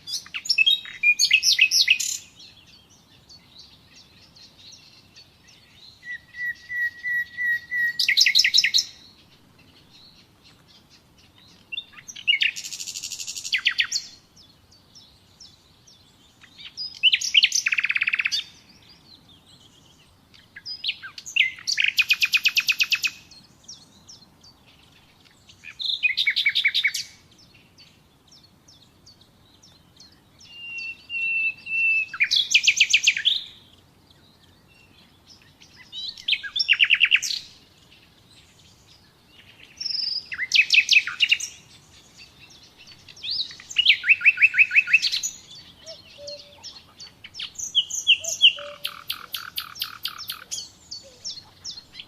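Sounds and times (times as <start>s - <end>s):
nightingale singing: 0.0s - 52.0s.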